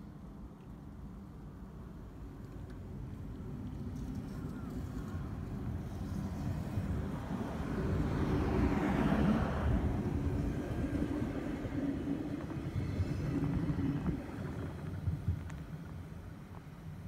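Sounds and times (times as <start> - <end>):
train wheels rumbling on rail: 1.8 - 17.0
train motor hum: 2.2 - 17.0.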